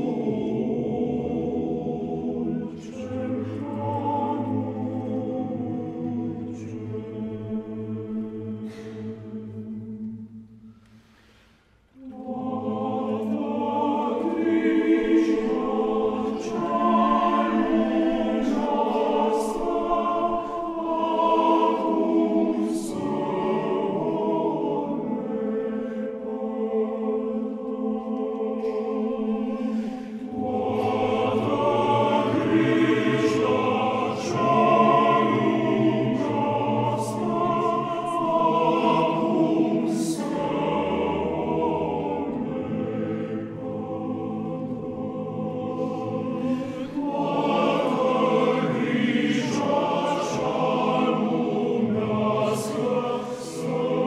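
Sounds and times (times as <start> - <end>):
men's choir singing sacred music: 0.0 - 54.0.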